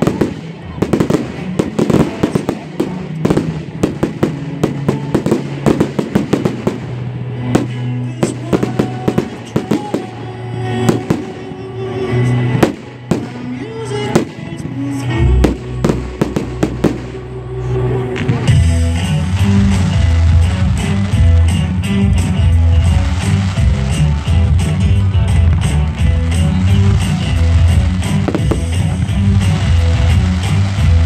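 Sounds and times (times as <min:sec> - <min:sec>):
fireworks bangs and crackles: 0:00.0 - 0:17.3, 0:18.2 - 0:31.0
music with sustained notes: 0:00.0 - 0:31.0.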